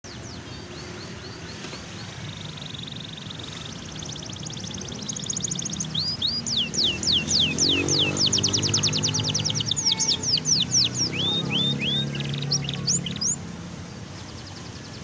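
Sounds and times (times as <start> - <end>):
canary singing: 2.2 - 15.0.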